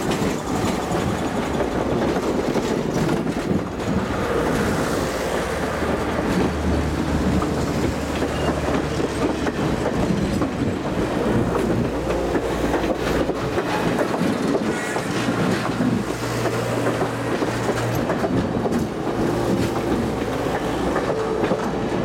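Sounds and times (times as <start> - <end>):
train rumbling past: 0.0 - 22.0
wheels clacking over rail joints: 0.0 - 22.0.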